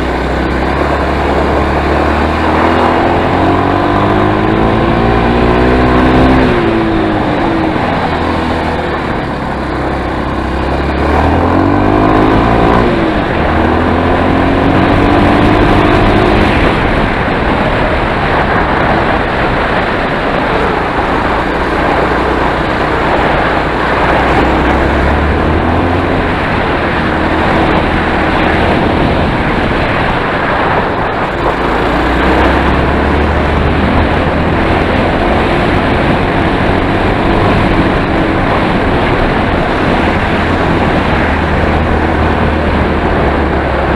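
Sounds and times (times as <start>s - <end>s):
motorcycle engine accelerating: 0.0s - 43.9s
steady rushing noise: 0.0s - 43.9s.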